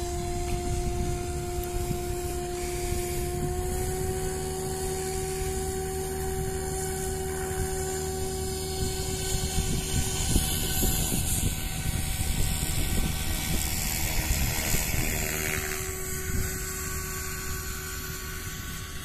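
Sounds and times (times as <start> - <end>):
rc helicopter motor and rotor whine: 0.0 - 19.0
wind buffeting microphone: 0.0 - 19.0.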